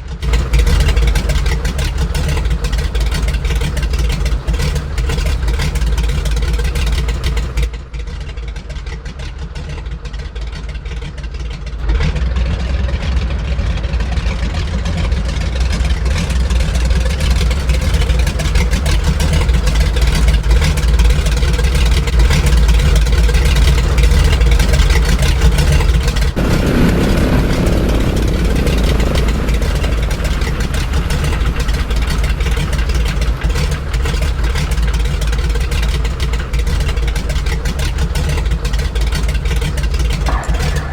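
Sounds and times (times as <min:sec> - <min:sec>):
aircraft radial engines running: 0:00.0 - 0:40.9.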